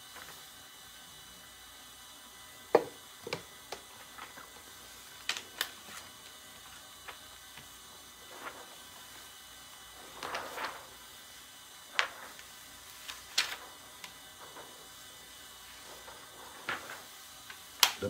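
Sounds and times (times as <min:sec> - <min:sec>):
plastic film rustling: 0:03.2 - 0:18.0.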